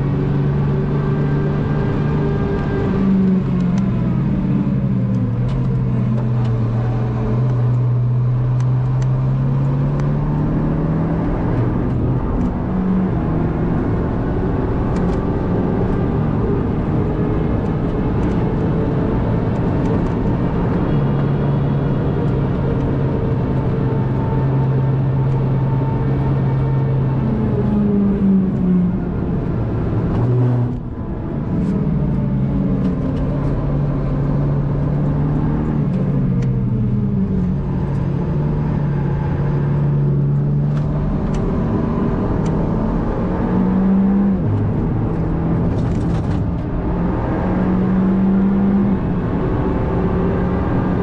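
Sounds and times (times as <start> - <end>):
car engine: 0.0 - 51.0.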